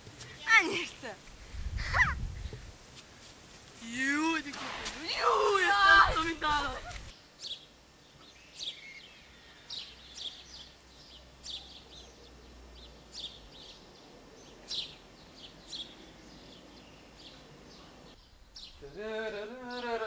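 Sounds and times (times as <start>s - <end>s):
small birds chirping: 3.8s - 20.0s.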